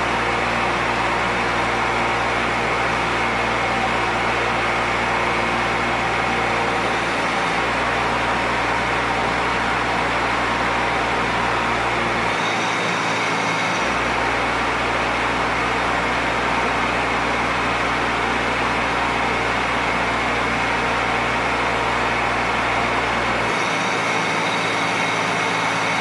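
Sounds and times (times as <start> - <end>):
small diesel engine running: 0.0 - 26.0.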